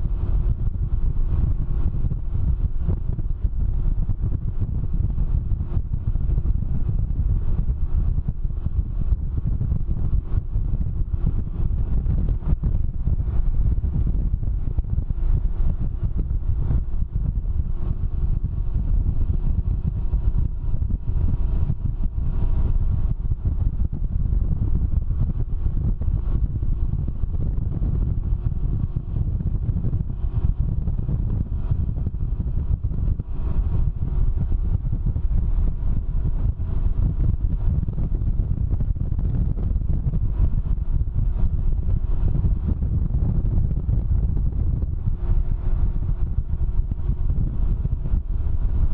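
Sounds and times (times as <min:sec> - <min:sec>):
engine droning: 0:00.0 - 0:48.9
wind buffeting microphone: 0:00.0 - 0:48.9.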